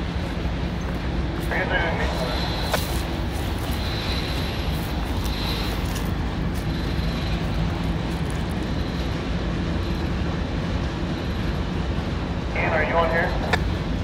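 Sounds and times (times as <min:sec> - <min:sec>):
diesel locomotive engine rumble: 0:00.0 - 0:14.0
steady rushing noise: 0:00.0 - 0:14.0.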